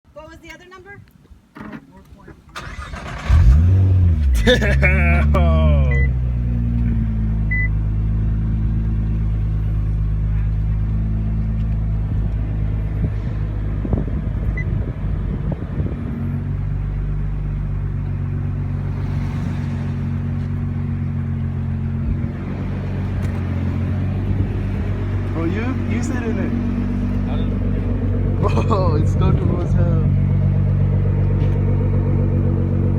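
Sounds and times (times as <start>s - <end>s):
engine revving: 2.6s - 9.6s, 10.7s - 32.9s
car engine idling: 2.6s - 32.9s.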